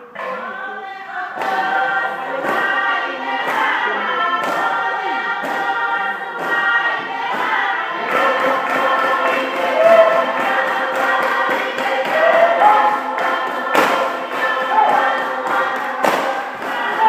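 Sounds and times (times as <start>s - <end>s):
group chanting in chorus: 0.0s - 17.0s.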